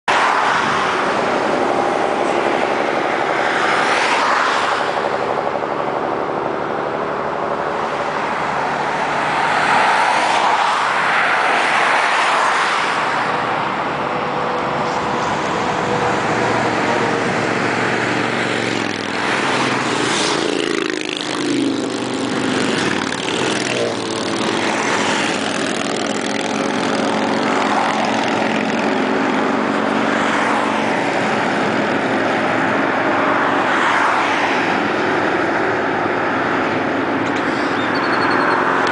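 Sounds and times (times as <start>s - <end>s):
car engines passing: 0.0s - 38.9s
motorcycles passing at speed: 0.1s - 6.0s, 7.3s - 37.4s.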